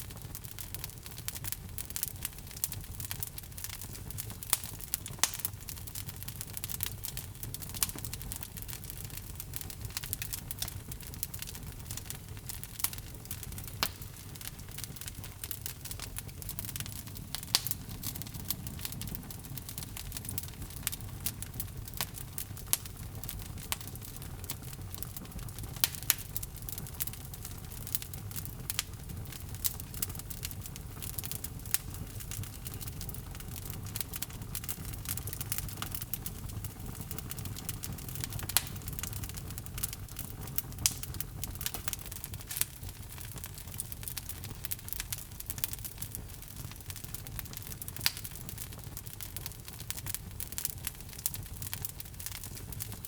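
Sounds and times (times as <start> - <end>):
burning wood crackling and popping: 0.0 - 53.0
fire rumbling: 0.0 - 53.0.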